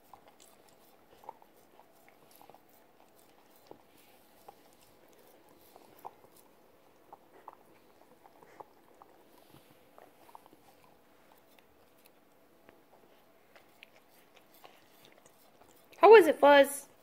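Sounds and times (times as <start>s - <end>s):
dog licking a plate: 0.0s - 16.2s.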